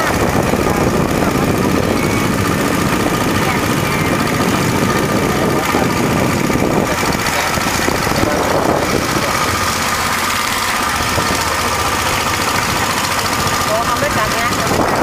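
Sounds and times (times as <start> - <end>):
high whine: 0.0 - 15.0
motorboat engine running: 0.0 - 15.0.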